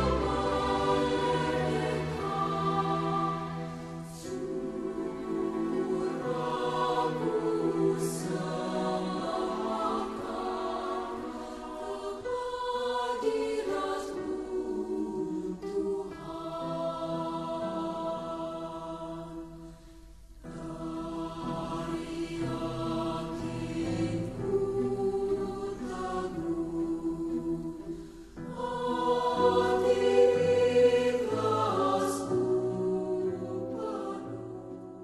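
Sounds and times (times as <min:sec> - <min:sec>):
choir singing long notes: 0:00.0 - 0:35.0.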